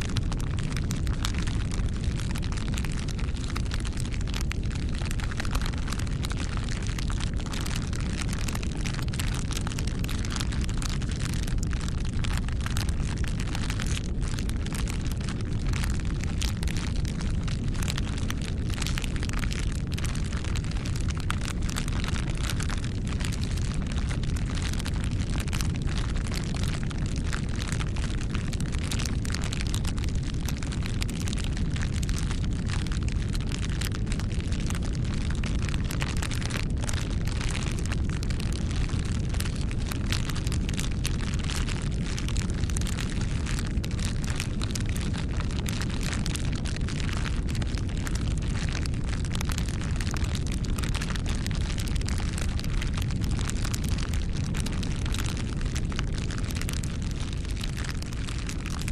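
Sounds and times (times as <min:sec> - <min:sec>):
bonfire crackling: 0:00.0 - 0:58.8.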